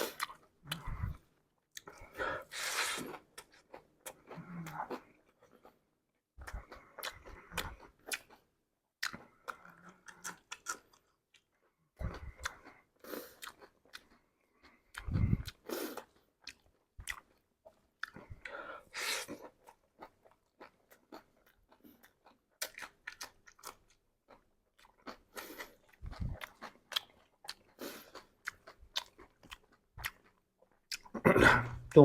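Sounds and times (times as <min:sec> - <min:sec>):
chewing crunchy snack: 0:00.0 - 0:32.0.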